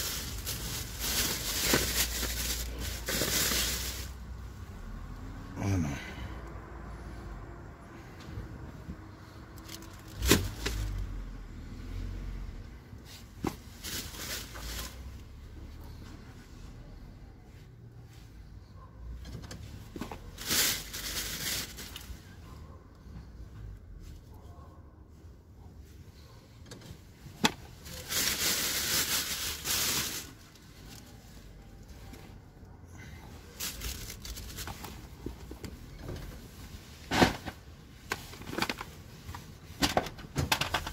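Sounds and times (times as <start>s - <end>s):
rustling of clothes and bags: 0.0s - 4.7s, 8.2s - 16.8s, 17.4s - 24.4s, 25.0s - 40.9s.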